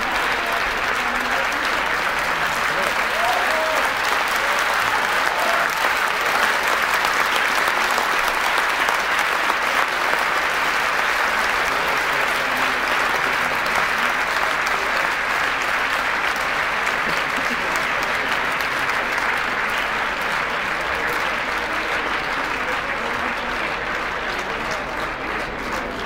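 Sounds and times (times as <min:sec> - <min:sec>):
audience clapping: 0:00.0 - 0:26.0.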